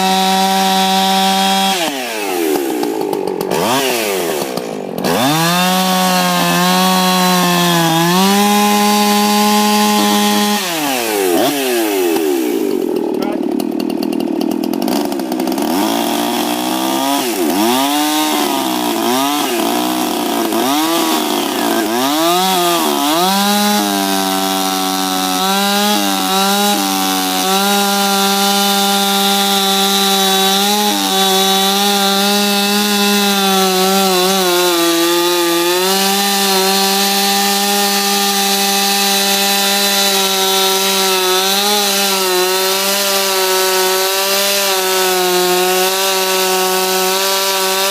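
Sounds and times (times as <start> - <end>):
chainsaw revving and cutting log: 0.0 - 47.9.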